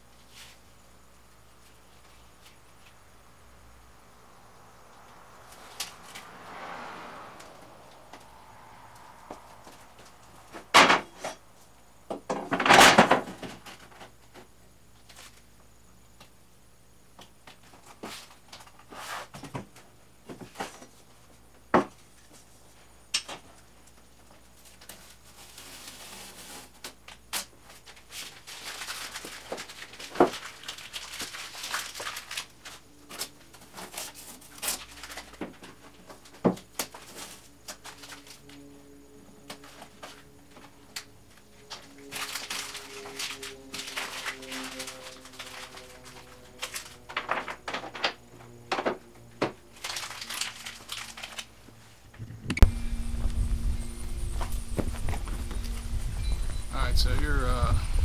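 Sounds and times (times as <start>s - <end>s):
rustling and scraping: 0.0s - 0.8s, 1.5s - 3.0s, 5.0s - 15.5s, 17.4s - 38.7s, 39.4s - 58.0s.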